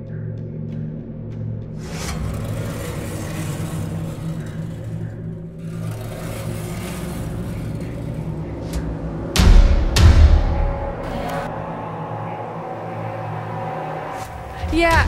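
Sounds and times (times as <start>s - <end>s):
low rumbling horror drone: 0.0s - 15.0s.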